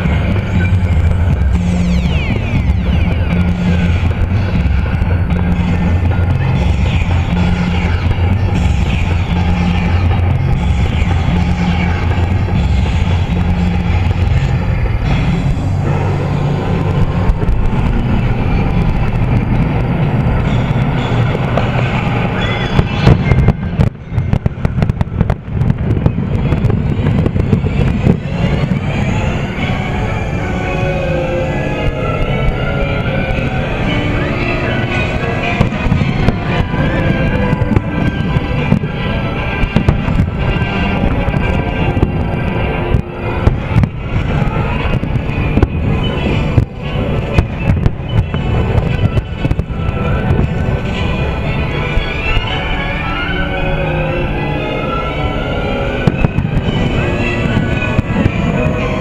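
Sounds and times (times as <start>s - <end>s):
fireworks bangs and crackles: 0.0s - 59.0s
low rumble: 0.0s - 59.0s
music playing: 0.0s - 59.0s.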